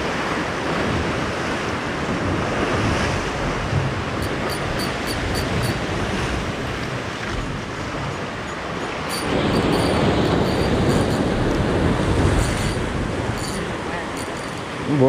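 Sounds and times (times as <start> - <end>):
sea waves breaking over rocks: 0.0 - 15.0
wind buffeting microphone: 0.0 - 15.0.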